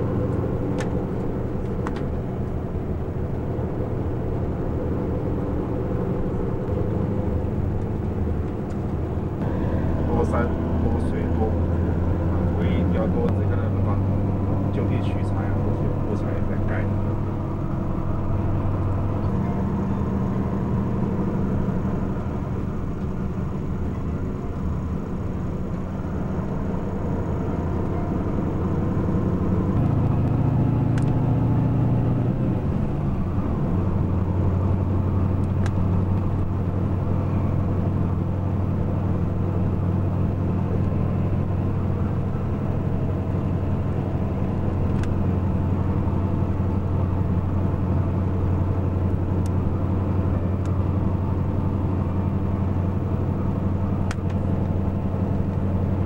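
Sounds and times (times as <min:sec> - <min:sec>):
vehicle engine hum and road noise: 0:00.0 - 0:56.0.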